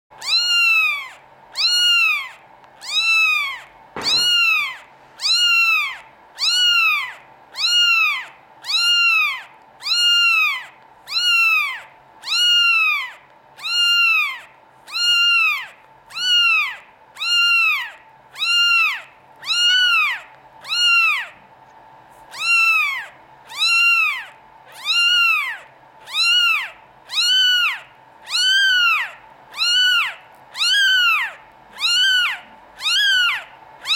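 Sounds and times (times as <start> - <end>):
kitten mewing: 0.2 - 21.4, 22.3 - 33.9.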